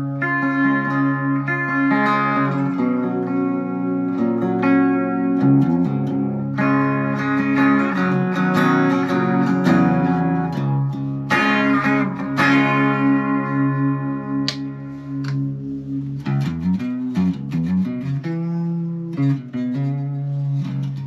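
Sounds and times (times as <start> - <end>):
electric guitar through amp: 0.0 - 21.0.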